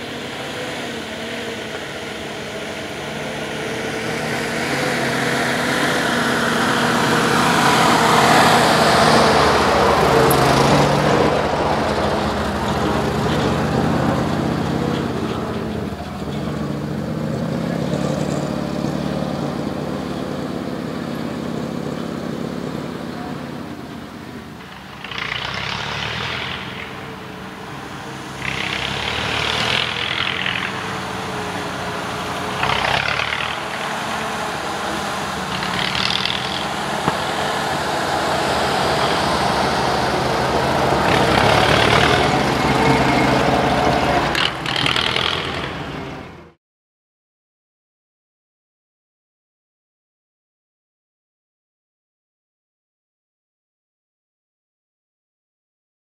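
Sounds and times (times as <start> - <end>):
truck engine revving: 0.0 - 46.6.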